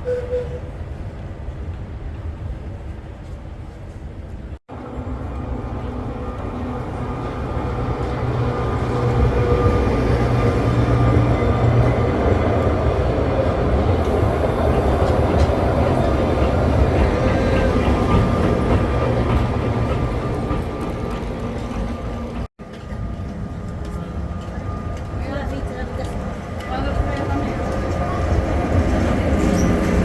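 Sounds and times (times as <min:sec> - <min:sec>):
tram rumbling on rails: 0:00.0 - 0:30.0.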